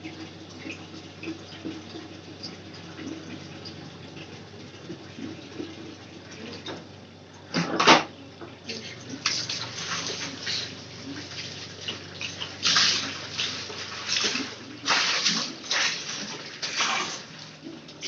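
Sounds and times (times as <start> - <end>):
steady low hum: 0.0 - 16.6
water splashing and sloshing: 0.0 - 18.0.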